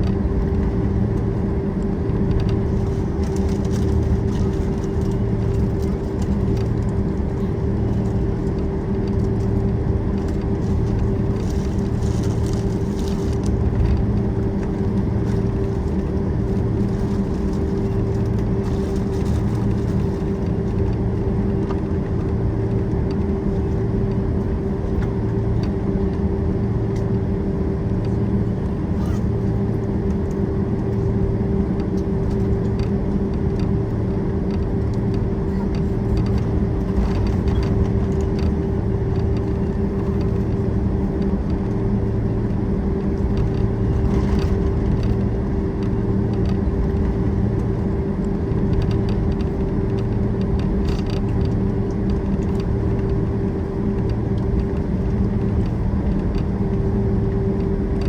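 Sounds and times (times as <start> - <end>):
jet engines idling in cabin: 0.0 - 58.0.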